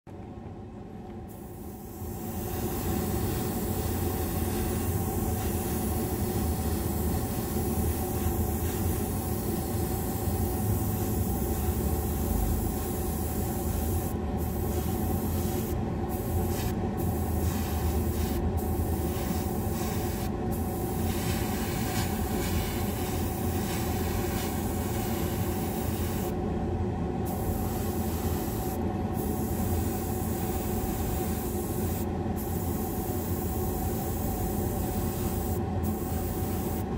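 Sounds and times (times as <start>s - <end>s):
exhaust fan motor hum: 0.1s - 36.9s
airbrush spraying hiss: 1.3s - 26.4s, 27.3s - 36.9s.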